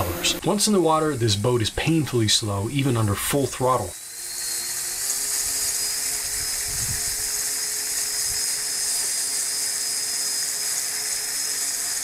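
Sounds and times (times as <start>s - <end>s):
high-pitched motor whine: 0.0s - 12.0s.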